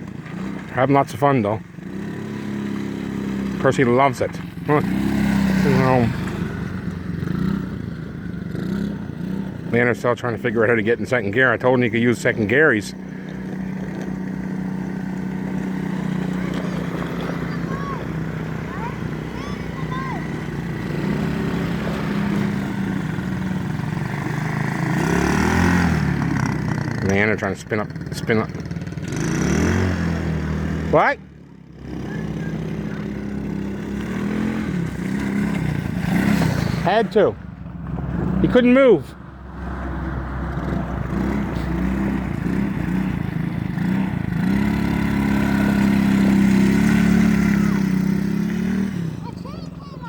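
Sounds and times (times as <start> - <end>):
quad bike engine revving: 0.0 - 50.0.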